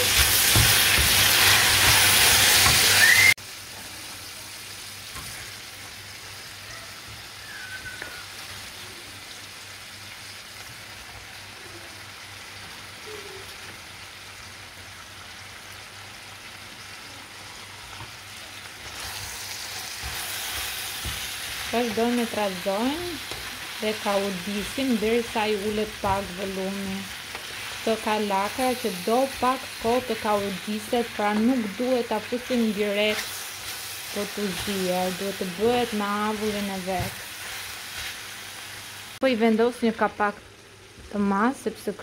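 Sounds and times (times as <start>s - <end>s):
vegetables sizzling in a frying pan: 0.0s - 42.0s.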